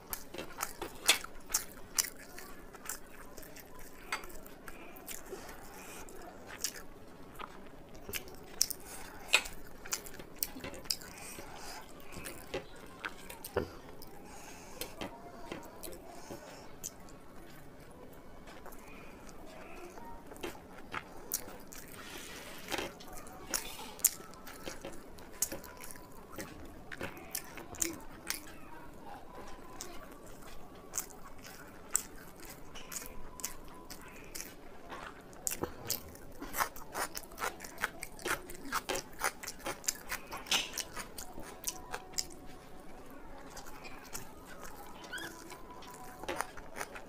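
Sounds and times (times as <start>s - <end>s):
chewing and crunching food: 0.0s - 47.0s.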